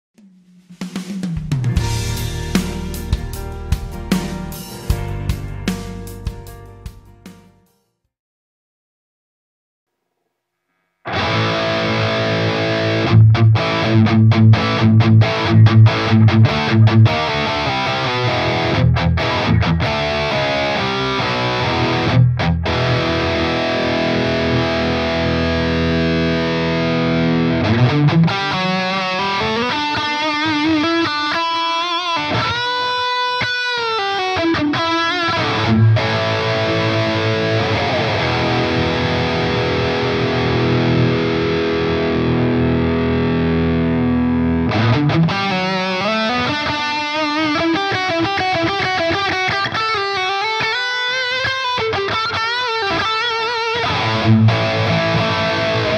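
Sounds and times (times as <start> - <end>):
distorted electric guitar: 0.3 - 7.0, 11.0 - 55.9.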